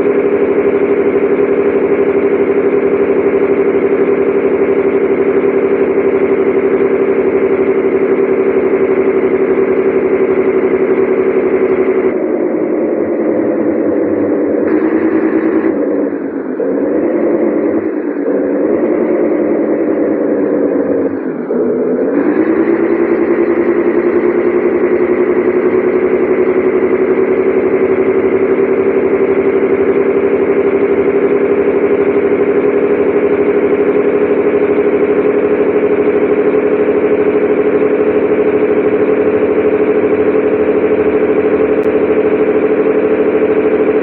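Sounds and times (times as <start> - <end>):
truck diesel engine under load: 0.0 - 44.0.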